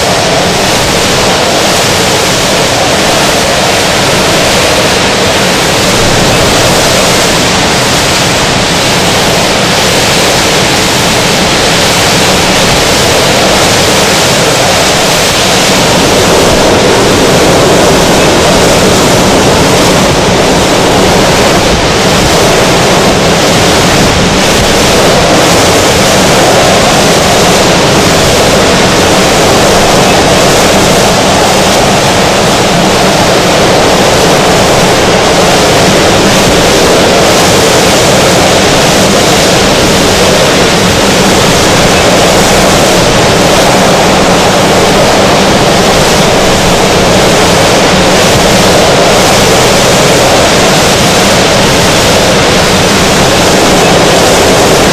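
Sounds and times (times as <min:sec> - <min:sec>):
surf: 0:00.0 - 0:54.9
wind buffeting microphone: 0:00.0 - 0:54.9.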